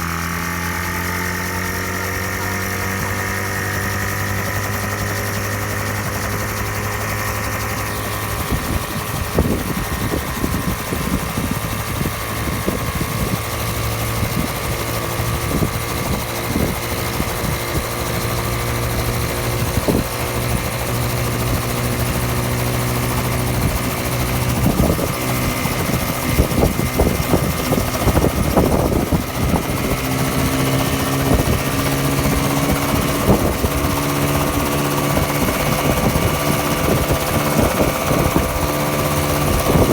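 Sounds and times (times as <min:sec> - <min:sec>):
helicopter engine and rotors droning: 0:00.0 - 0:39.9
wind buffeting microphone: 0:02.8 - 0:39.9.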